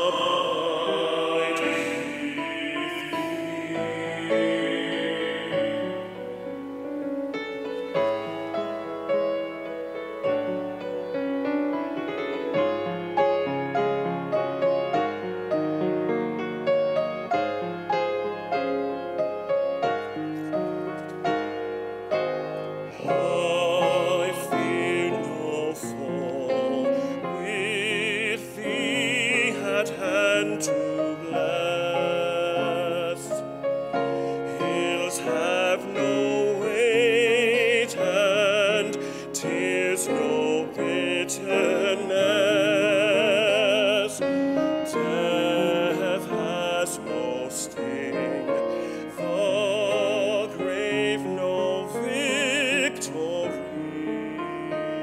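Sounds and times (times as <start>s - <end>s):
man singing classical style: 0.0s - 11.4s, 22.2s - 55.0s
piano: 0.0s - 55.0s.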